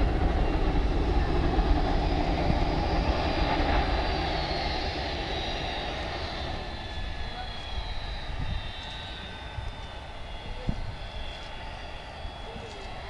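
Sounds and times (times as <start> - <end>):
high engine whine: 0.0 - 13.0
jet engines roaring: 0.0 - 13.0.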